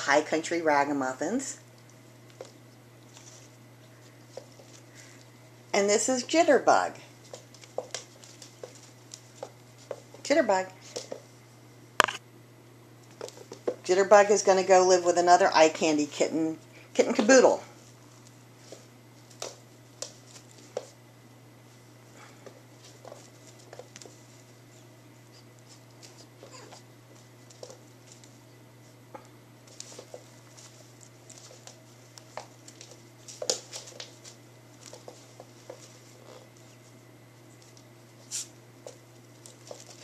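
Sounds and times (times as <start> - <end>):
faint steady hum: 0.0 - 40.0
kitten paws tapping and scuffling: 1.7 - 5.4, 6.1 - 11.4, 13.0 - 21.0, 21.6 - 40.0.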